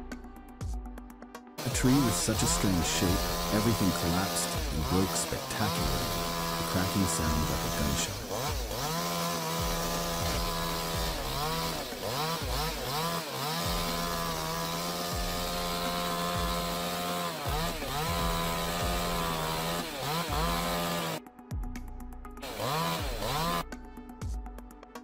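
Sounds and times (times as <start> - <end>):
chainsaw revving: 1.6 - 21.2, 22.4 - 23.7.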